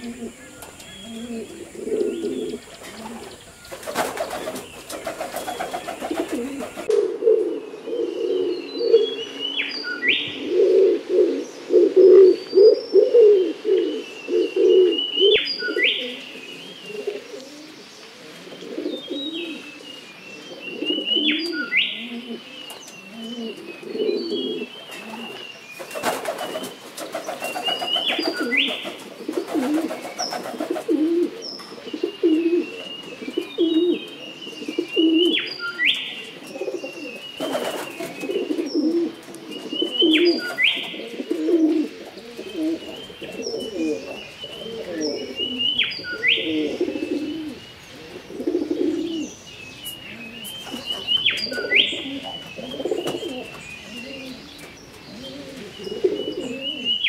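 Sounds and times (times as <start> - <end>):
pigeon cooing: 0.0 - 3.4, 5.1 - 9.2, 10.3 - 19.8, 20.6 - 25.4, 27.6 - 35.4, 36.4 - 49.3, 49.9 - 54.5, 55.1 - 57.0
small bird song phrase: 0.0 - 6.9, 13.8 - 57.0.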